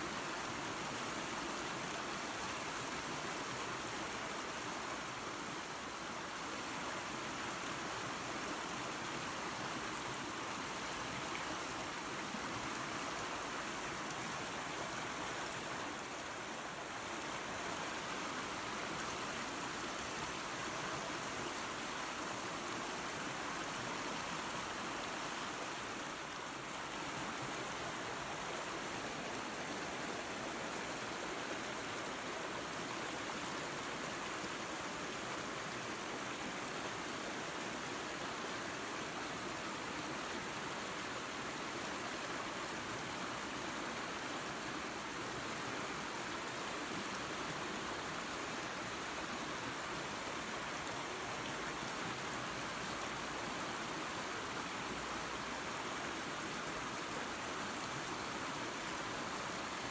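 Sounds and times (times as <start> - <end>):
waterfall and creek rushing: 0.0 - 59.9.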